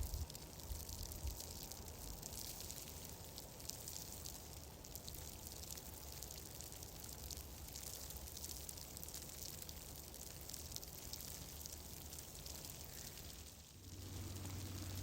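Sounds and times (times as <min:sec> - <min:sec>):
high hiss with crackles: 0:00.0 - 0:15.0.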